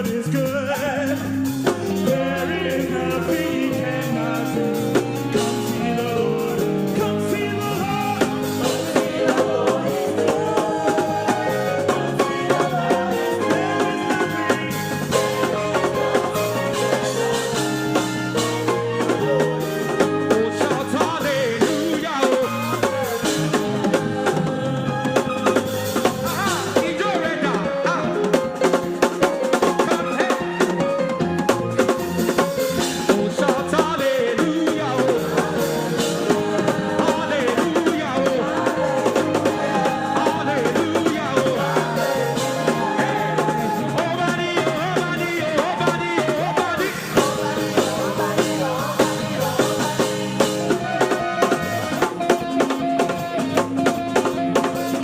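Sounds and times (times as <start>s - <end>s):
person singing: 0.0s - 30.8s, 32.3s - 55.0s
upbeat praise music: 0.0s - 55.0s.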